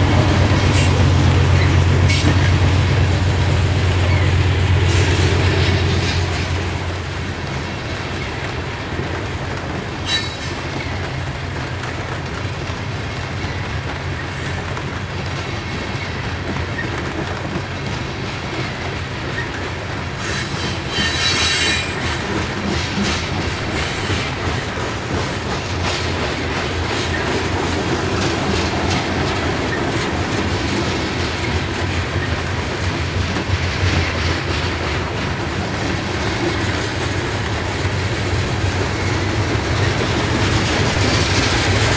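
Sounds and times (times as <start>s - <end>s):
freight train wheels rumbling on rail: 0.0s - 41.9s.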